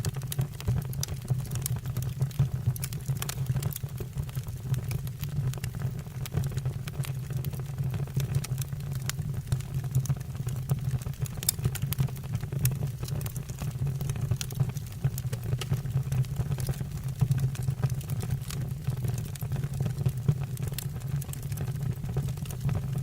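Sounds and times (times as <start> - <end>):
fire rumbling: 0.0 - 23.0
logs crackling and popping: 0.0 - 23.0.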